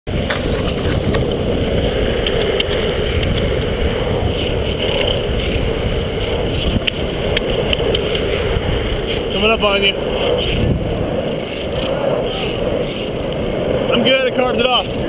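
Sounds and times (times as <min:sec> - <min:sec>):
longboard wheels rolling on pavement: 0:00.1 - 0:15.0.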